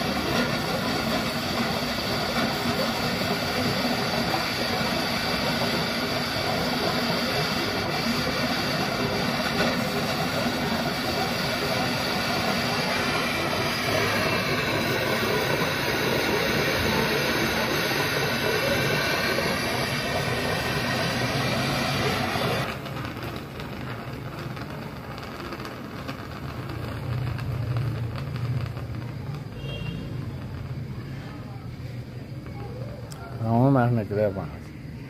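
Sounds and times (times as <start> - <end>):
gas hissing from pipe: 0.0 - 35.0.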